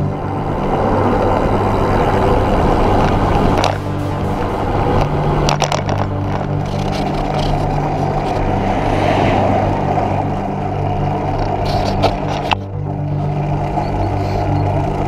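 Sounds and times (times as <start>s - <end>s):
steady low hum: 0.0s - 15.0s
tyre and road noise: 0.0s - 15.0s
wind buffeting microphone: 0.0s - 15.0s.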